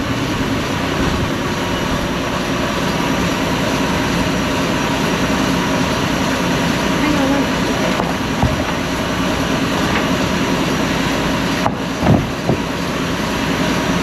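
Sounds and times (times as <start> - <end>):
bandsaw mill engine running: 0.0 - 14.0.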